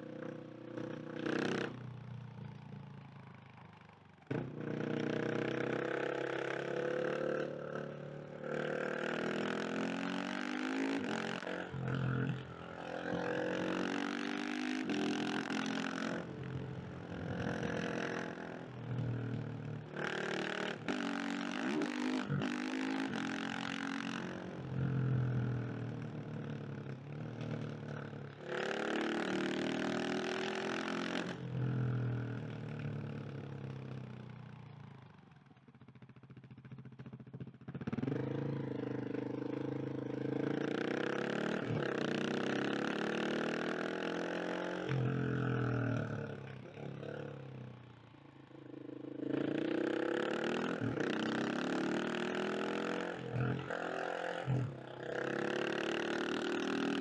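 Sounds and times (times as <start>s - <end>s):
motorcycle engine revving: 0.0s - 2.7s, 4.3s - 35.0s, 35.8s - 57.0s.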